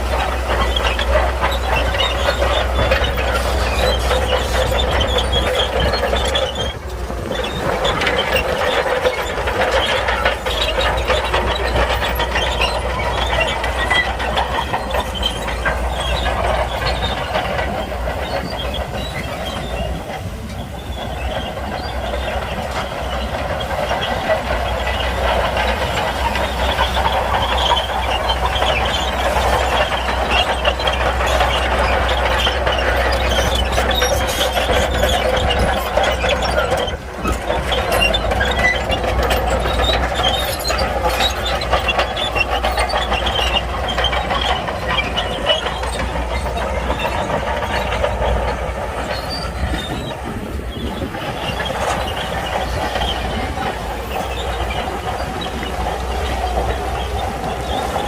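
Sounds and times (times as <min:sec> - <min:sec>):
diesel engine running: 0:00.0 - 0:58.0
steel tracks clattering and squealing: 0:00.0 - 0:58.0.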